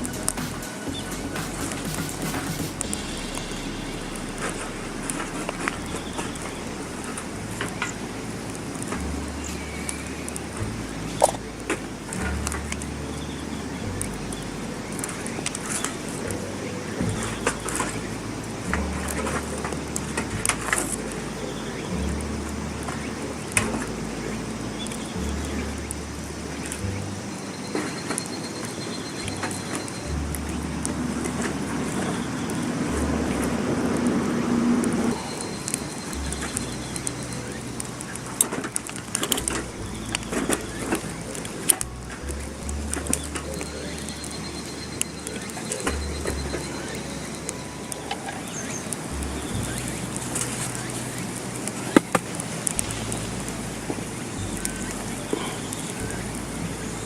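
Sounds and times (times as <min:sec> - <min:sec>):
low rumble: 0:00.0 - 0:27.7, 0:28.3 - 0:57.0
campfire crackling and popping: 0:00.0 - 0:57.0.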